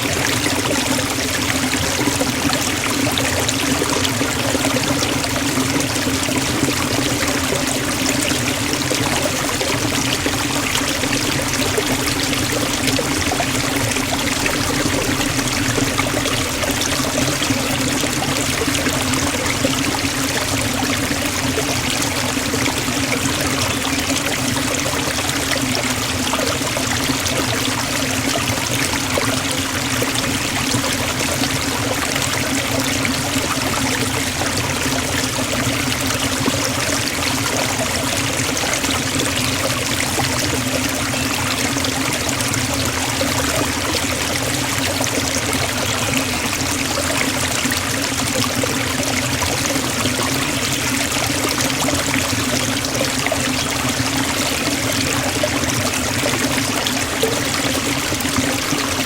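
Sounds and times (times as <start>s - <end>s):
waterfall splashing into pool: 0.0s - 59.0s.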